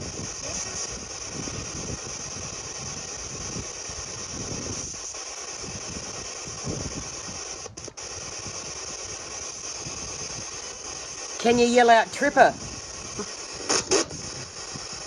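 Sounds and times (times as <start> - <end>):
choppy crackle: 0.0 - 15.0
static hiss: 0.0 - 15.0.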